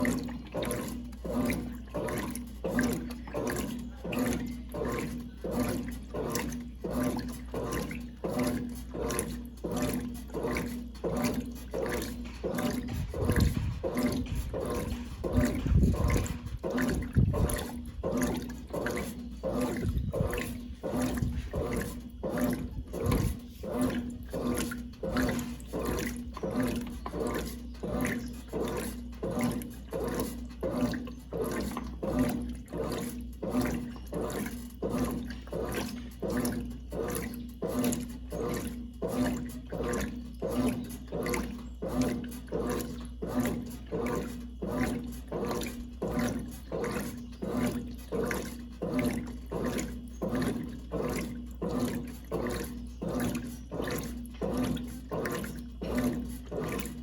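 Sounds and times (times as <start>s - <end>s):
steady machine hum: 0.0s - 57.0s
water sloshing in washing machine: 0.0s - 57.0s.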